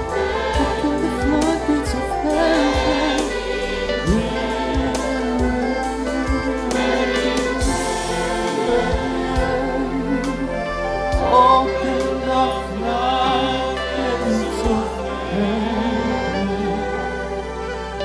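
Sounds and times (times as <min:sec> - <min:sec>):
choir singing: 0:00.0 - 0:18.0
instrumental backing: 0:00.0 - 0:18.0.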